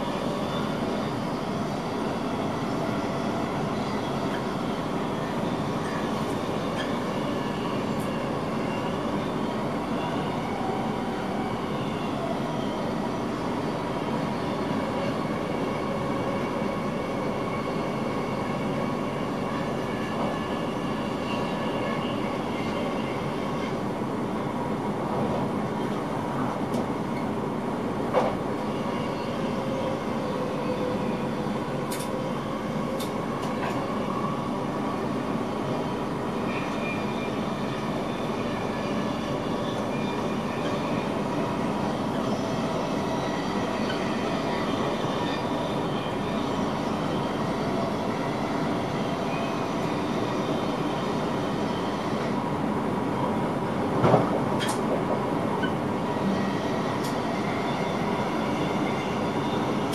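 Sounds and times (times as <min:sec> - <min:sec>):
train rolling noise: 0:00.0 - 0:59.9.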